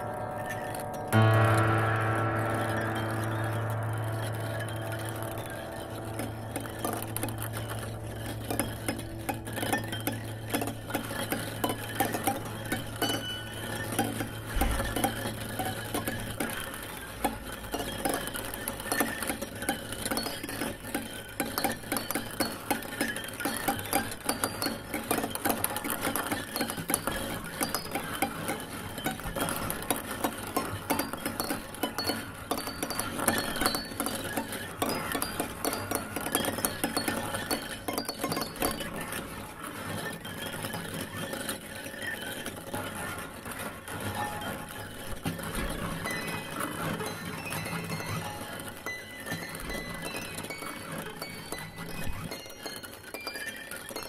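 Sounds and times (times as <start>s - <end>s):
fast clicking and clinking: 0.0s - 54.0s.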